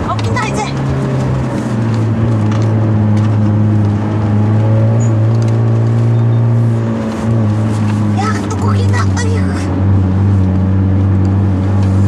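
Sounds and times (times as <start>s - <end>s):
car engine droning under load: 0.0s - 12.0s.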